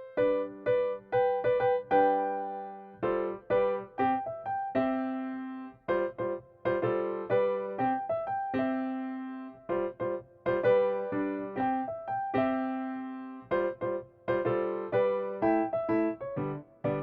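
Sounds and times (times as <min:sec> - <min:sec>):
electric piano melody: 0:00.0 - 0:17.0.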